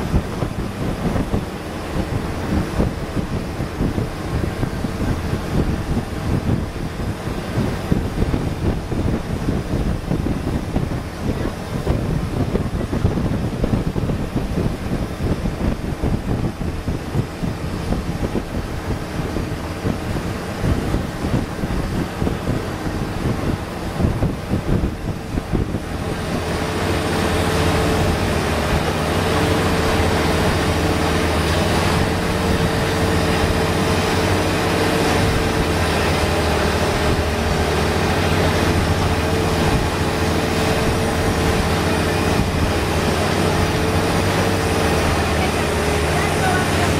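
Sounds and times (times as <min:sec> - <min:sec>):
boat engine running: 0:00.0 - 0:46.9
wind buffeting microphone: 0:00.0 - 0:46.9.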